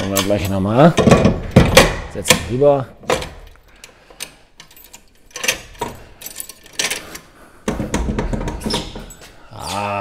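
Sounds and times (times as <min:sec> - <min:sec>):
metal clicks and light knocks: 0:00.0 - 0:09.2.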